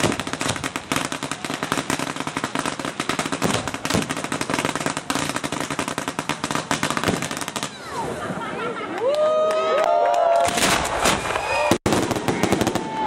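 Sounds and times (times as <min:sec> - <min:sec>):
rapid firework bangs: 0:00.0 - 0:08.1, 0:10.5 - 0:13.0.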